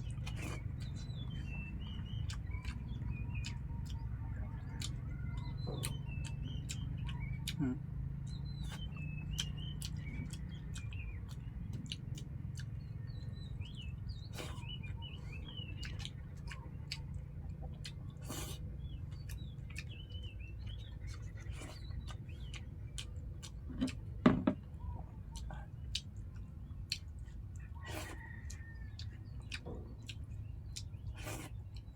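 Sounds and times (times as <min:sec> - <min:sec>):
small birds chirping: 0:00.0 - 0:31.9
steady low hum: 0:00.0 - 0:31.9.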